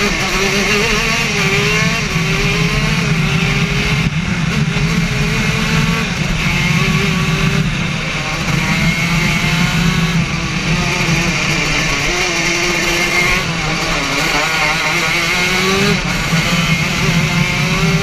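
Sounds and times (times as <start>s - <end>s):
racing kart engine revving: 0.0s - 18.0s.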